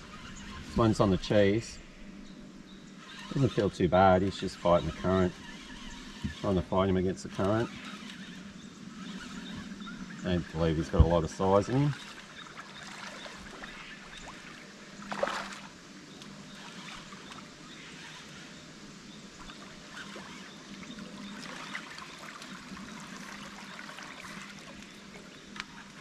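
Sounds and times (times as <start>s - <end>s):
water splashing and lapping: 3.0s - 18.6s, 19.3s - 26.0s.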